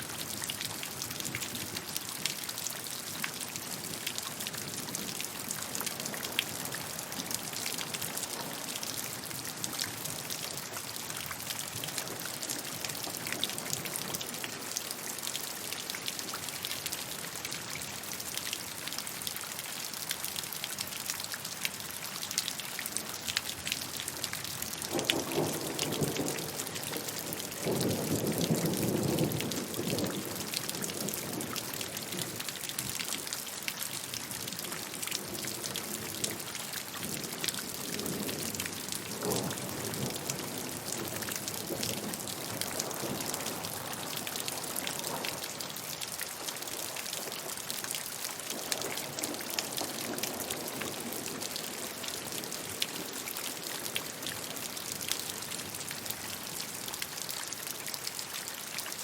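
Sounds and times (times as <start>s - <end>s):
raindrops pattering: 0.0s - 59.0s.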